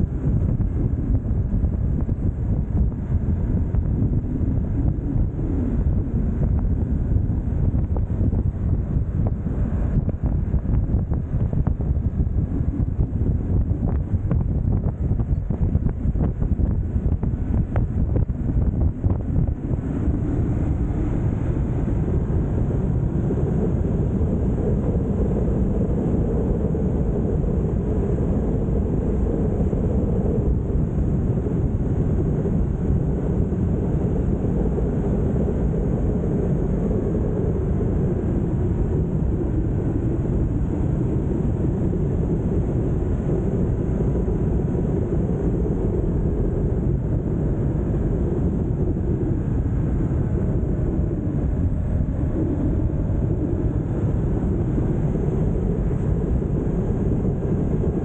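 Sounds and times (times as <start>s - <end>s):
motorcycle engine and wind rumble: 0.0s - 58.0s.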